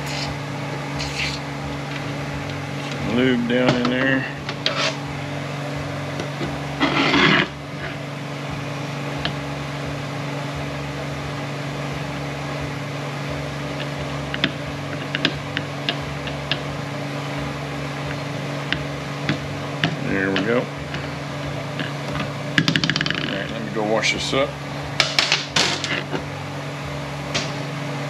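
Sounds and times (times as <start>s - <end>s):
steady shop hum: 0.0s - 28.0s.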